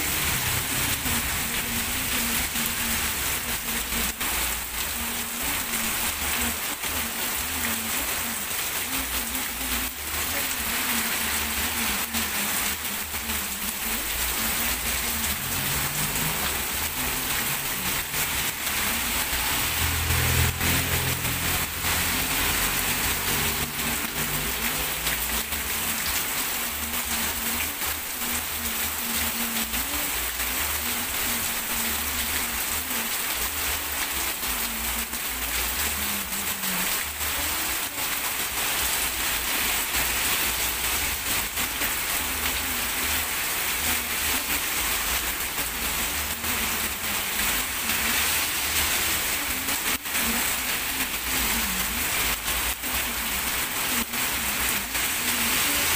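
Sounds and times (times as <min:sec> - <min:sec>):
heavy rain on street and puddles: 0:00.0 - 0:55.9.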